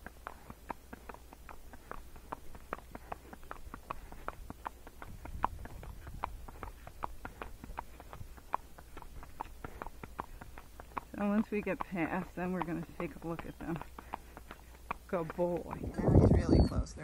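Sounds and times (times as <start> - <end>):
horse hooves clip-clopping: 0.0 - 16.5.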